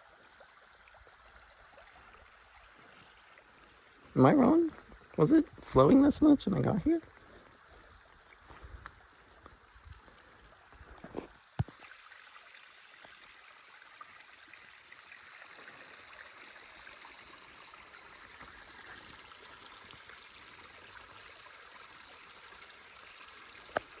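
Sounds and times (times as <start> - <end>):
creek flowing: 0.0 - 24.0.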